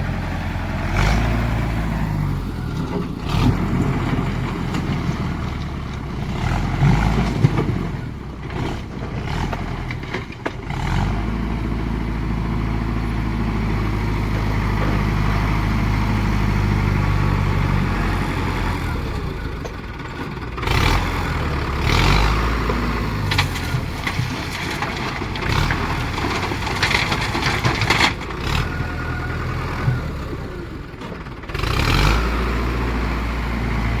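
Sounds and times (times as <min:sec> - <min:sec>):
heavy diesel engines running: 0:00.0 - 0:34.0.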